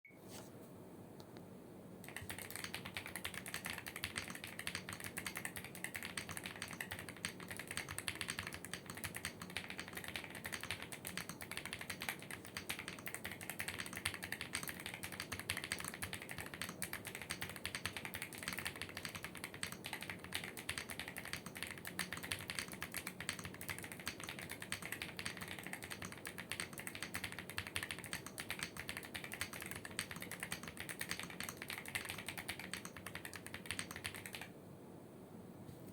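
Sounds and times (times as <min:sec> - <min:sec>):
fast mechanical keyboard typing: 0:02.0 - 0:34.5.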